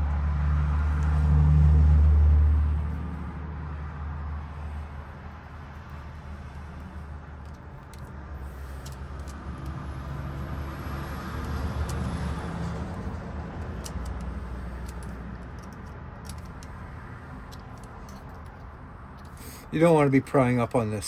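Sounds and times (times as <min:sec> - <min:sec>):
low vehicle rumble: 0:00.0 - 0:19.8.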